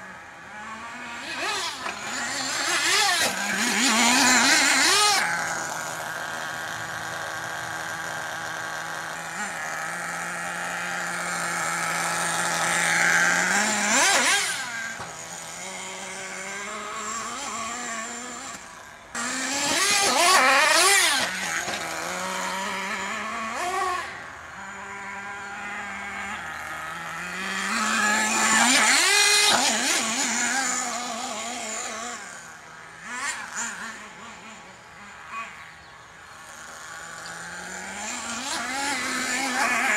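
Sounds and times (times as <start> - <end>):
small nitro engine revving: 0.0 - 39.9.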